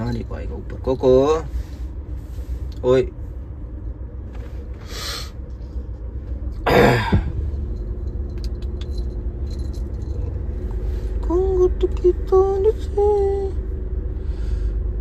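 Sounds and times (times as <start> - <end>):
car cabin rumble: 0.0 - 15.0.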